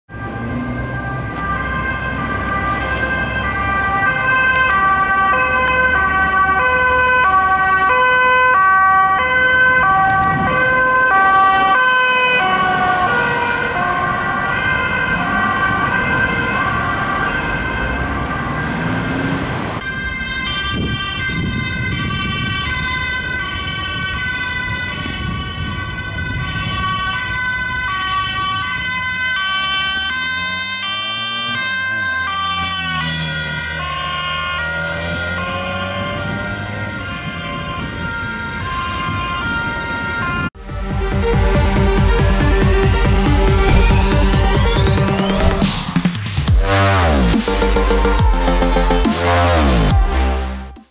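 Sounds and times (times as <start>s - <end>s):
road and engine noise: 0.0s - 50.9s
two-tone police sirens: 0.1s - 50.9s.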